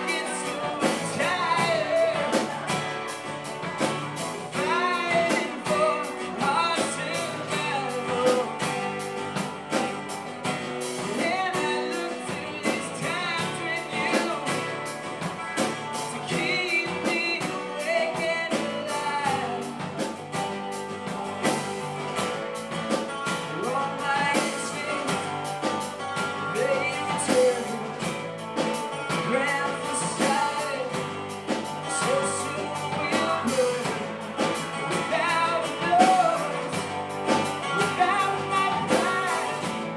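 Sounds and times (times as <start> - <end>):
person singing: 0.0 - 9.4, 10.8 - 20.4, 23.3 - 28.3, 28.9 - 39.9
acoustic guitars strummed: 0.0 - 39.9
drum kit: 0.0 - 39.9.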